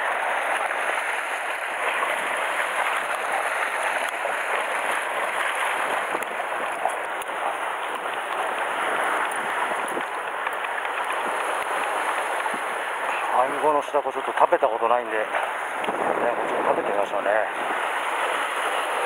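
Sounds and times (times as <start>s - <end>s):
sea surf on rocky shore: 0.0s - 19.0s.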